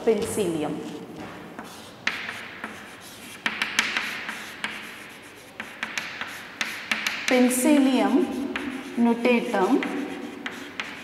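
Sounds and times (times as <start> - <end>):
chalk tapping on a board: 1.5 - 11.0
chalk scratching on a chalkboard: 1.6 - 11.0.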